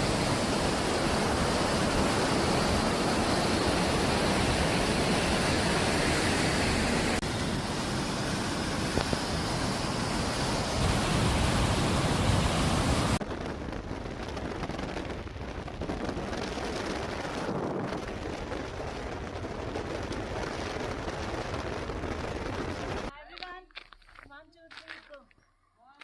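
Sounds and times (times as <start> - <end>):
steady rushing noise: 0.0 - 23.1.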